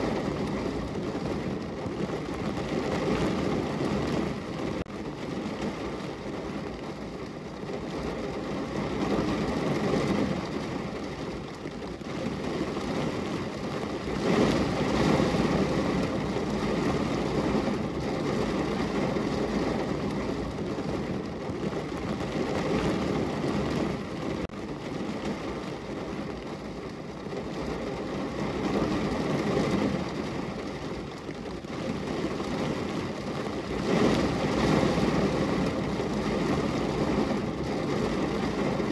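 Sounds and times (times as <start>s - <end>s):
rain against a window: 0.0s - 38.9s.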